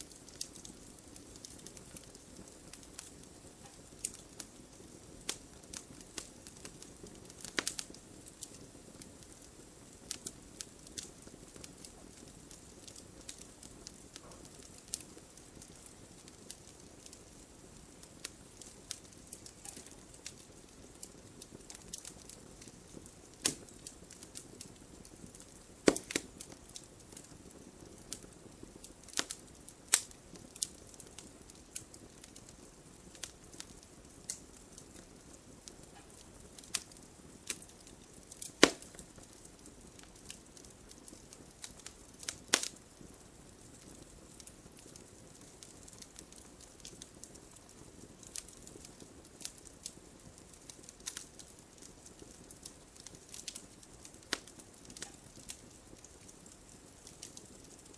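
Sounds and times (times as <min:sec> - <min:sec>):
burning logs popping: 0:00.0 - 0:57.9
fire hissing: 0:00.0 - 0:57.9
wood fire crackling: 0:00.0 - 0:57.9.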